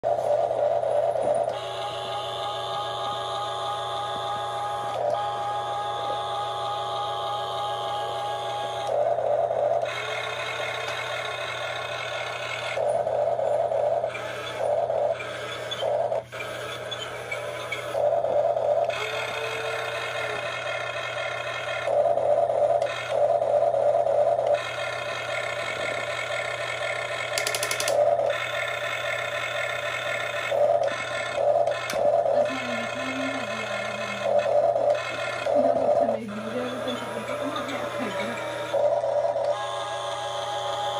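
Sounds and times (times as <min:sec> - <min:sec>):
steady low hum: 0:00.0 - 0:40.9
toy electric motors whining: 0:00.0 - 0:40.9.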